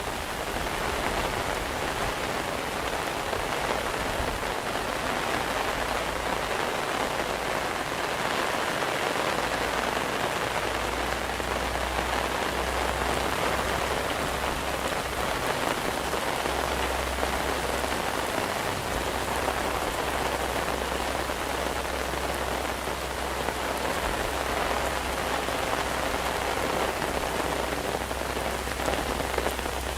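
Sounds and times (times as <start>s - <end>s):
rain on hard surfaces: 0.0s - 29.9s.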